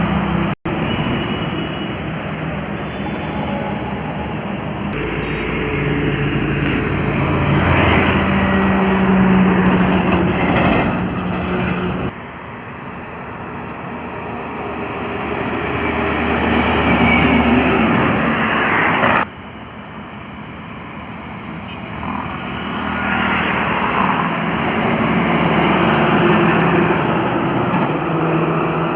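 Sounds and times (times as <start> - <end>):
heavy trucks passing: 0.0 - 28.9.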